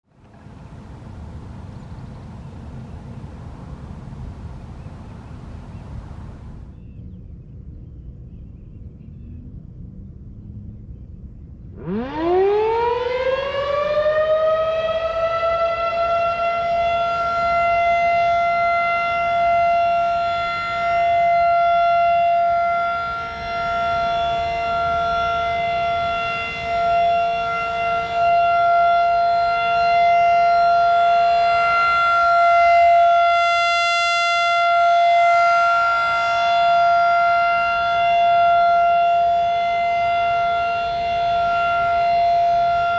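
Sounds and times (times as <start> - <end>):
tornado siren: 0.2 - 6.8, 11.7 - 42.9.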